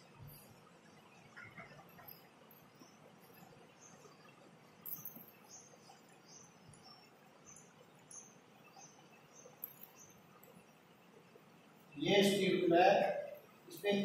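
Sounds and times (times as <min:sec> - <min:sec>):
low room hiss: 0:00.0 - 0:14.0.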